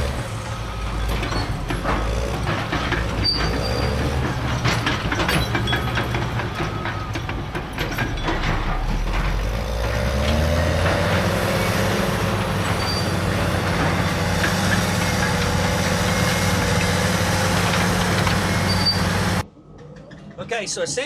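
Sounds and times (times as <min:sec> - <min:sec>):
diesel engine revving: 0:00.0 - 0:19.4
engine whine: 0:00.0 - 0:19.6.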